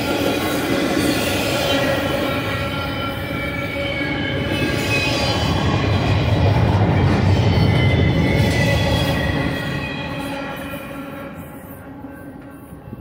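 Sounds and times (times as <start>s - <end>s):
high wheel squeal: 0.0s - 13.0s
steel wheels rumbling on rail: 0.0s - 13.0s.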